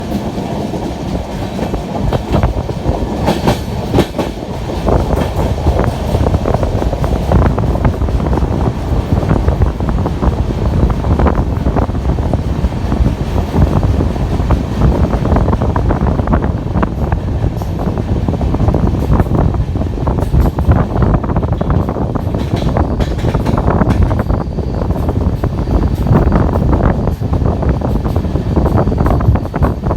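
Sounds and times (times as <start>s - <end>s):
train rumbling on track: 0.0s - 29.9s.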